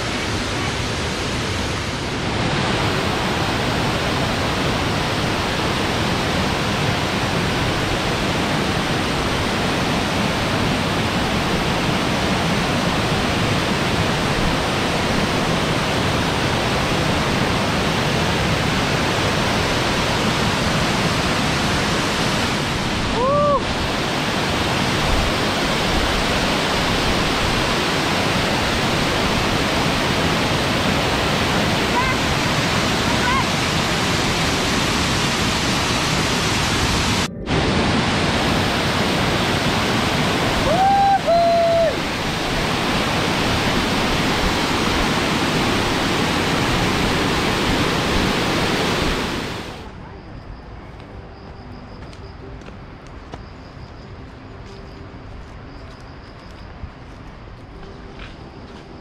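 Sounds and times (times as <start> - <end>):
waterfall rushing over rocks: 0.0 - 50.0.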